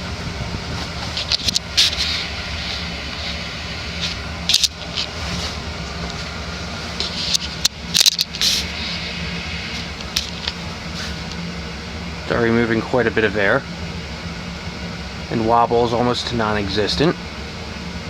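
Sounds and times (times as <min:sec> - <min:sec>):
ceiling fan motor humming: 0:00.0 - 0:18.0.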